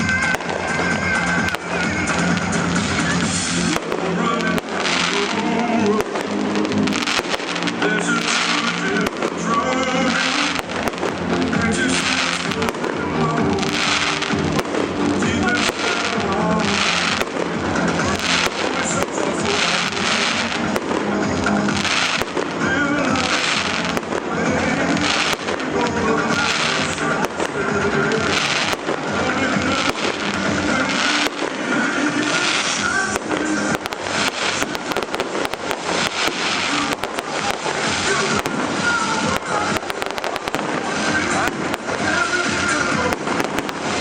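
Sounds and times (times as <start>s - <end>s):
fireworks bangs: 0.0s - 44.0s
fireworks crackling: 0.0s - 44.0s.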